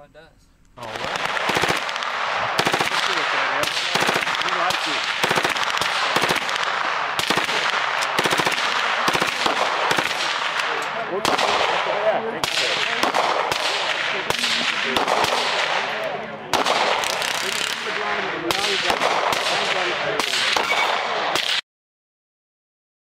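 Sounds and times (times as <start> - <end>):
gunfire: 0.8 - 21.6.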